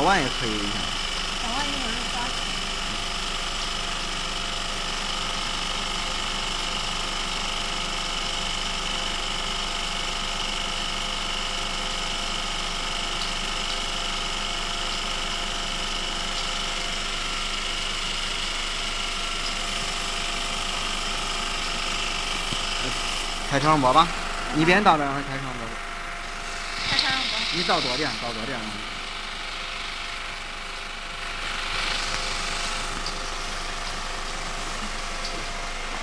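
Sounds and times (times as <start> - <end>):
vibrating sieve motor humming: 0.0 - 36.0.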